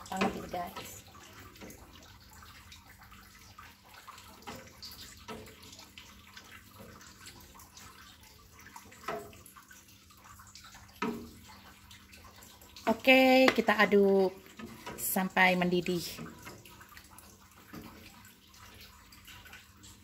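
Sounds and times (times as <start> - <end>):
liquid sloshing in a pot: 0.0 - 20.0.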